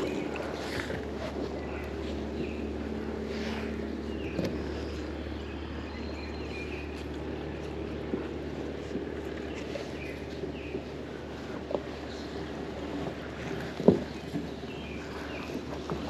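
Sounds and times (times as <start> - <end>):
electric boat motor humming: 0.0 - 16.0.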